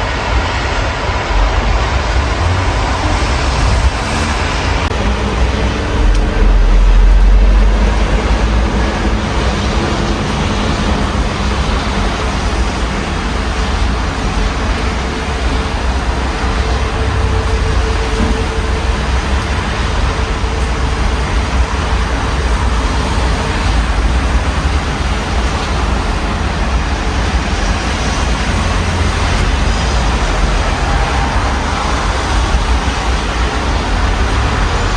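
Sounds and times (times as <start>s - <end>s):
city traffic passing: 0.0s - 34.9s
steady rain: 0.0s - 34.9s
vehicle low rumble: 0.0s - 34.9s.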